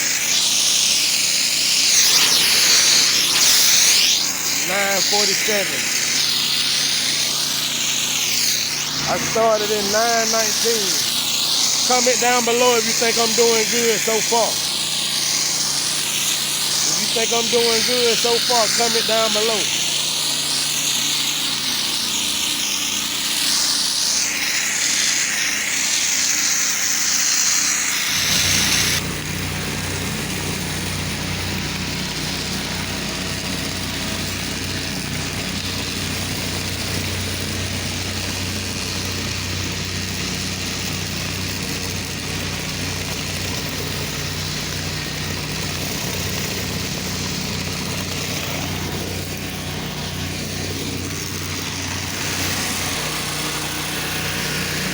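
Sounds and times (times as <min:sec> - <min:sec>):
high-pressure water spray hiss: 0:00.0 - 0:54.9
pressure washer engine humming: 0:00.0 - 0:54.9.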